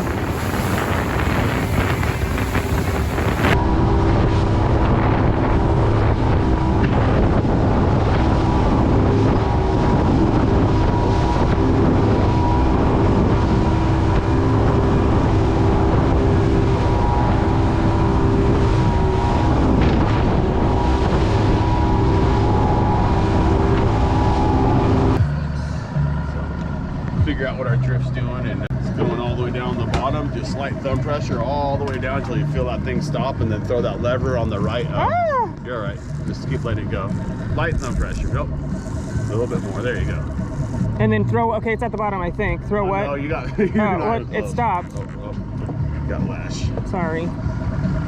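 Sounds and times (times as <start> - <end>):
boat engine droning: 0.0 - 48.0
wind buffeting microphone: 0.0 - 48.0.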